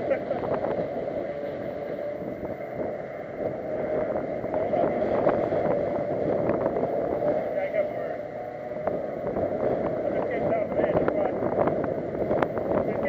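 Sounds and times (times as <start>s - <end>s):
vehicle engine drone: 0.0s - 13.0s
wind noise on microphone: 0.0s - 13.0s.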